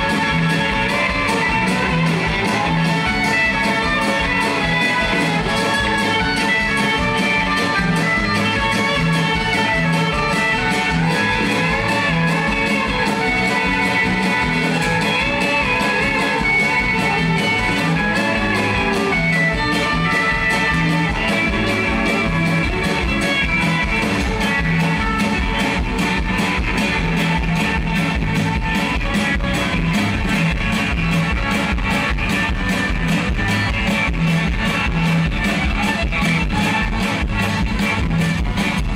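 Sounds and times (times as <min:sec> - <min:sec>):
acoustic and electric guitars: 0:00.0 - 0:38.9
steady drum beat: 0:00.0 - 0:38.9.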